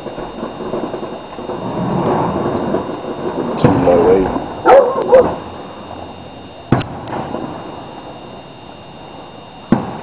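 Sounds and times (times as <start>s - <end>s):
distant fireworks bangs: 0.0s - 8.4s, 9.6s - 10.0s.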